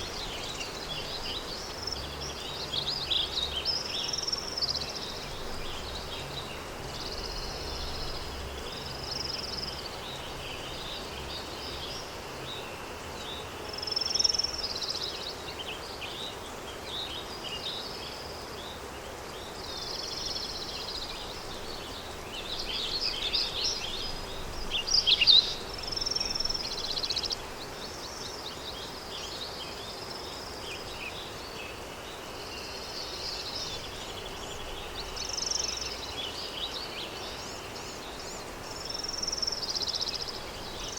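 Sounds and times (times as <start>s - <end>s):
low wind: 0.0s - 40.9s
songbirds chirping and trilling: 0.0s - 40.9s.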